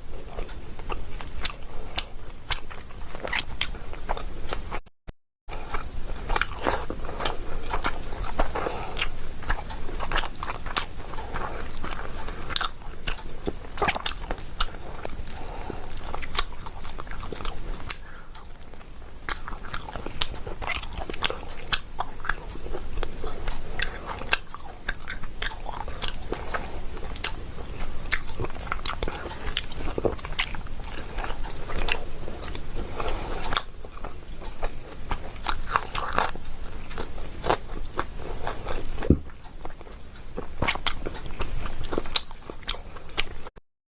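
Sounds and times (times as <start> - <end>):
chewing with crunches: 0.0 - 4.9, 5.5 - 43.6.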